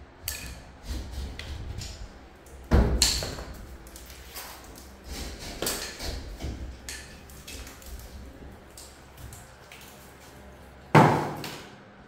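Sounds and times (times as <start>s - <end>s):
knocks and thuds in tiled room: 0.4s - 9.8s, 10.9s - 11.8s.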